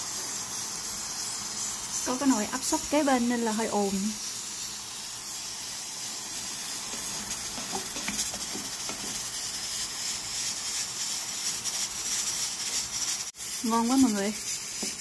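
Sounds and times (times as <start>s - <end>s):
pressure cooker venting steam: 0.0s - 15.0s
sauce bubbling in a pot: 0.0s - 15.0s.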